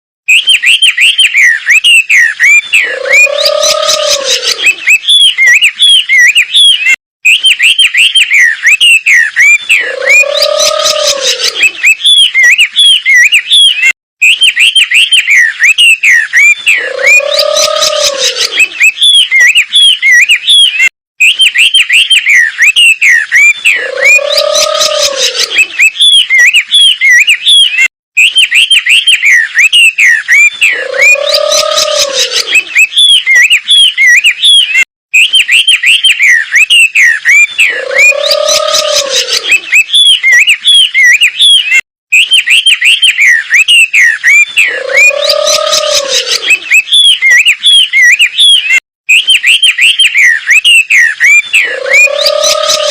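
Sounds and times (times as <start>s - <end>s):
recorded bird chirps and whistles: 0.3s - 52.9s.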